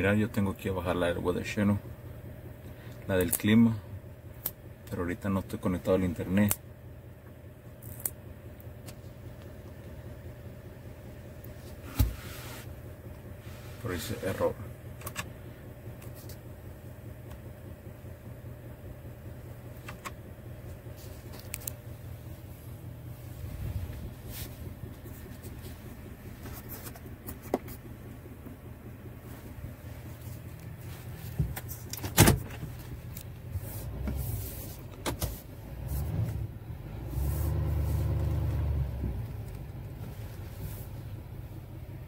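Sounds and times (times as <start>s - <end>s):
diesel truck engine idling: 0.0s - 42.0s.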